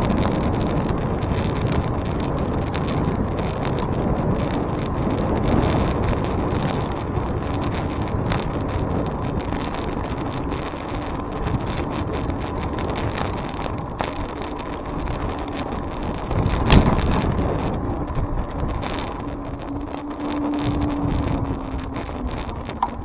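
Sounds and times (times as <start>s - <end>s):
road noise: 0.0s - 23.0s
wind rushing over microphone: 0.0s - 23.0s.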